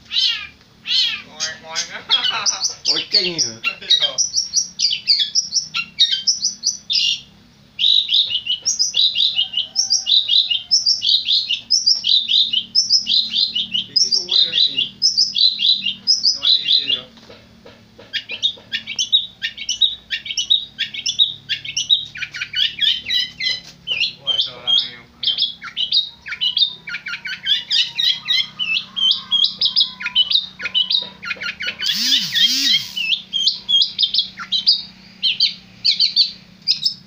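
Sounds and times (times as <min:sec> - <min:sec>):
bird singing chattering song: 0:00.0 - 0:37.0.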